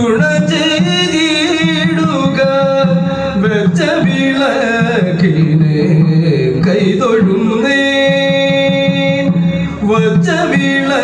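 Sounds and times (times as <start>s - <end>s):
person singing devotional verse: 0.0s - 11.0s.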